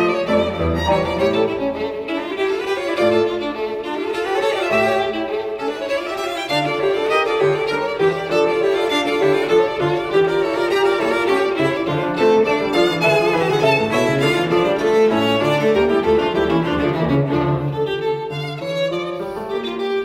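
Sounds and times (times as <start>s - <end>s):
violin melody: 0.0s - 20.0s.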